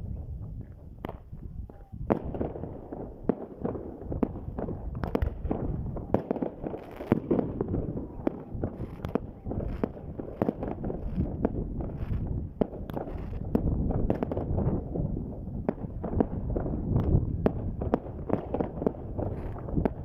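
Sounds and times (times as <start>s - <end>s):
low rumble and crackle: 0.0s - 20.0s
fireworks bangs: 0.1s - 20.0s.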